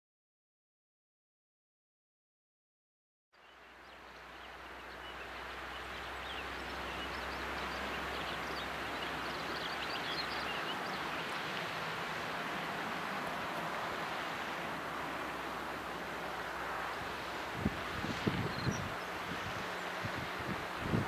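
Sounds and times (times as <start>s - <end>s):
water rushing down a channel: 3.6s - 21.0s.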